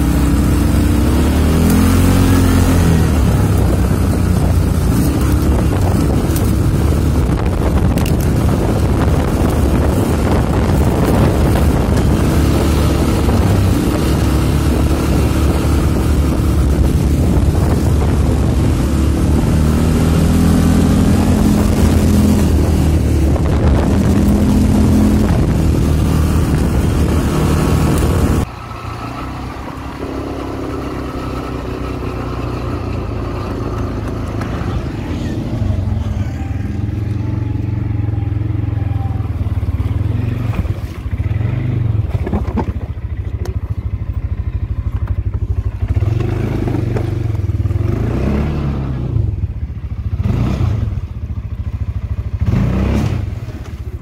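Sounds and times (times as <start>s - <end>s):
atv engines running off-road: 0.0s - 54.0s.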